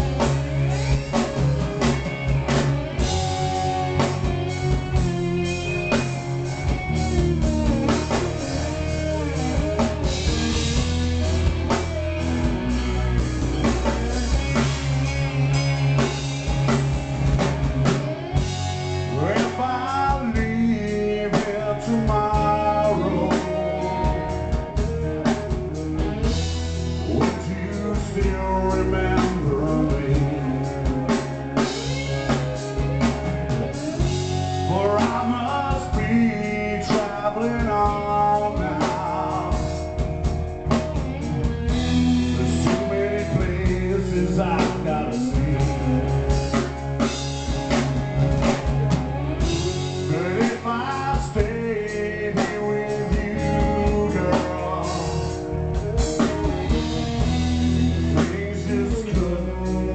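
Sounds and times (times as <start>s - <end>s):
bass guitar: 0.0s - 59.9s
drum kit: 0.0s - 59.9s
electric guitar sliding notes: 0.0s - 59.9s.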